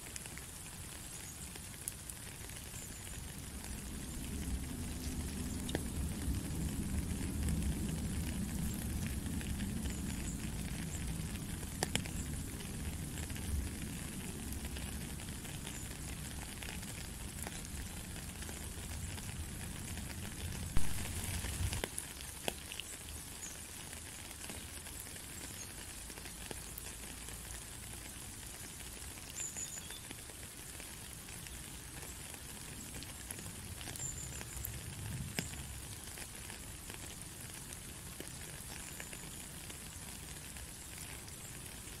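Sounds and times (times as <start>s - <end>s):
drips on puddle water: 0.0s - 42.0s
rain falling: 0.0s - 42.0s.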